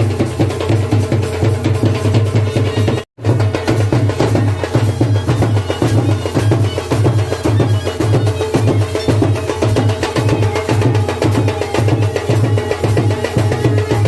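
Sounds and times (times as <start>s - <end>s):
folk music with fast drumming: 0.0s - 14.0s.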